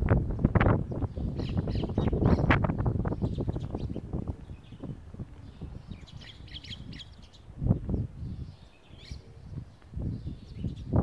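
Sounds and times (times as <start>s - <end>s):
sparrows chirping: 0.2s - 11.0s.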